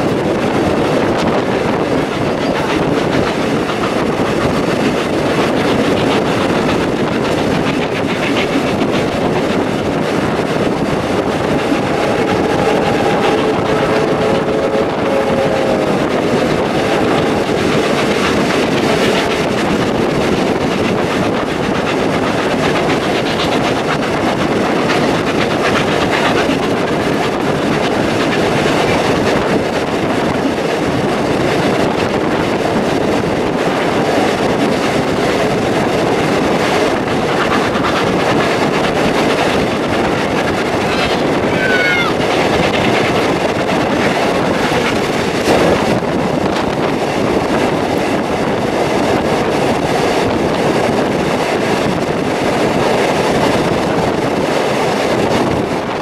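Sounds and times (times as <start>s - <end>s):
clickety-clack over rail joints: 0.0s - 56.0s
train wheels rumbling on track: 0.0s - 56.0s.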